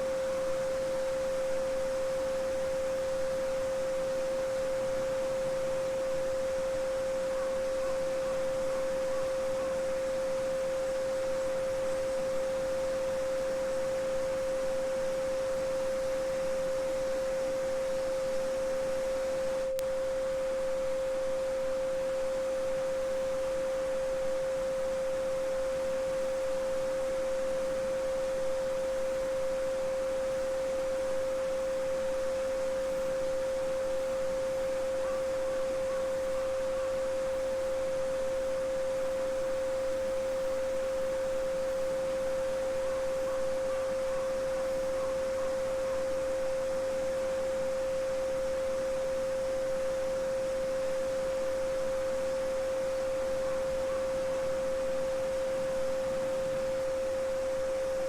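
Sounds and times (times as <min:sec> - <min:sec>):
steady sine tone: 0:00.0 - 0:58.0.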